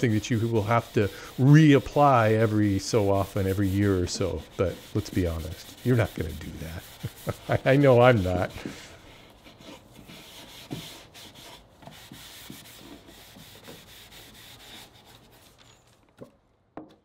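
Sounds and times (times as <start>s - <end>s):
hand rubbing wood: 0.0s - 16.4s.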